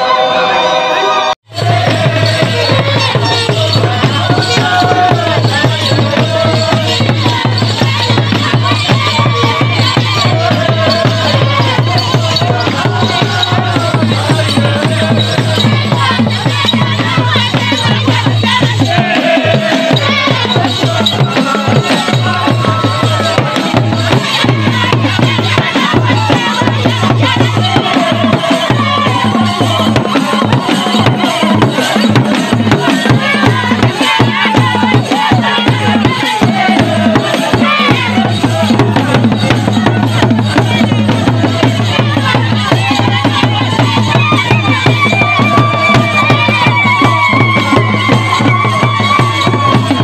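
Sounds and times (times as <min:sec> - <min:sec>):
voices of crowd: 0:00.0 - 0:50.0
drums beaten with sticks: 0:01.5 - 0:50.0.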